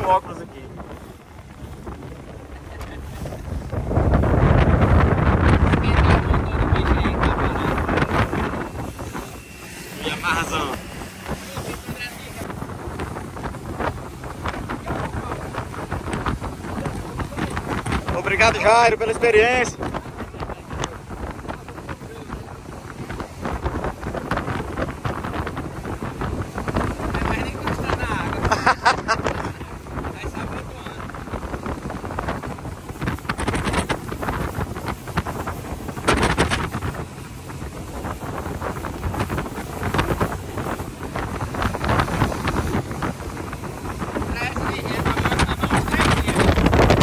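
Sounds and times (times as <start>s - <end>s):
boat engine rumble: 0.0s - 47.0s
motorboat noise: 0.0s - 47.0s
rush of water: 0.0s - 47.0s
wind buffeting microphone: 0.0s - 47.0s.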